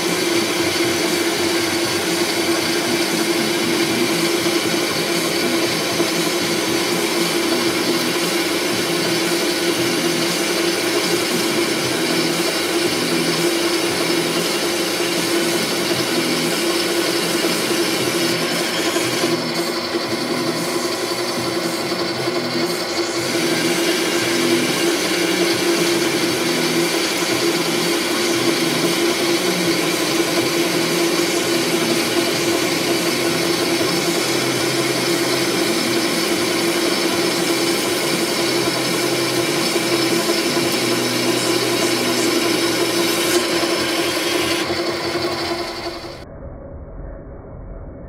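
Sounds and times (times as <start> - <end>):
metal lathe whine: 0.0 - 46.2
tool scraping metal: 0.0 - 46.2.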